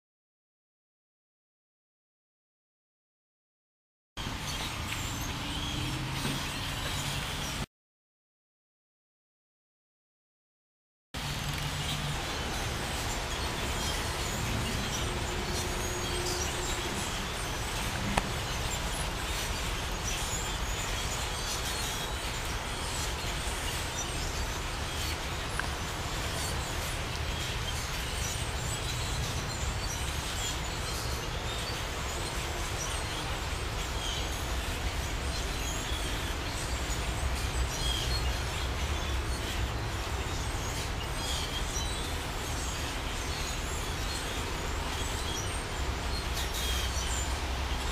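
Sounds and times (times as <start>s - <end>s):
flock of birds chirping: 4.2s - 7.7s, 11.2s - 47.9s.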